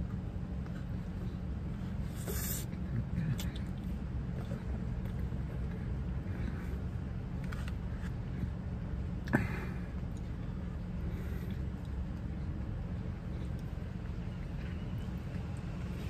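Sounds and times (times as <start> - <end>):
low hum inside car: 0.0 - 16.0.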